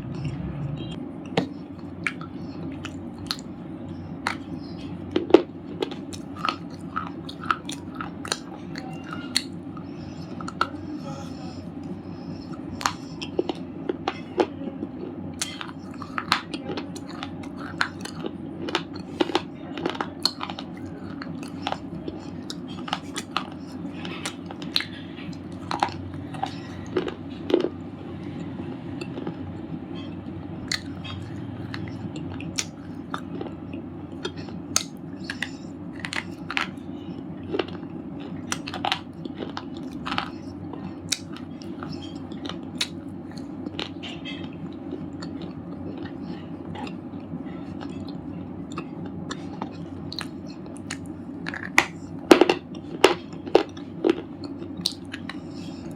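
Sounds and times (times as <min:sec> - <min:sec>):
steady low hum: 0:00.0 - 0:55.9
chewing crunchy stone chips: 0:01.3 - 0:55.9.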